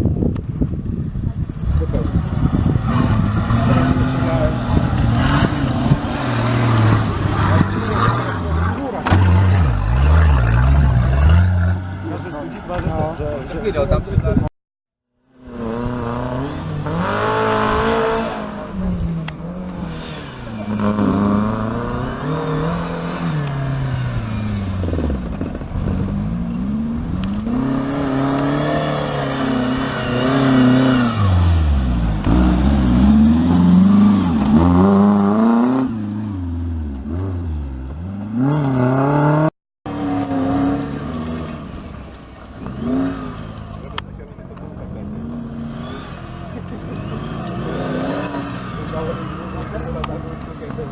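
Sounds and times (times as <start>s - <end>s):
off-road vehicle engine revving: 1.2s - 14.5s, 15.3s - 50.9s.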